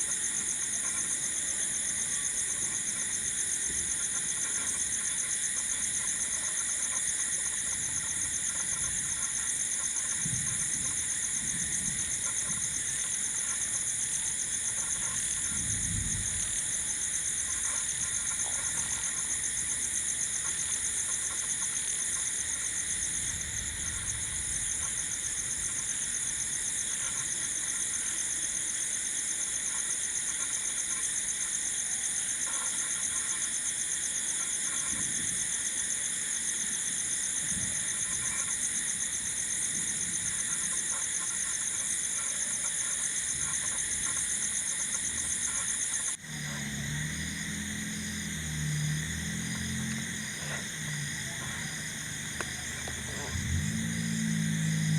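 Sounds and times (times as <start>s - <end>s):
crickets and insects trilling: 0.0s - 54.9s.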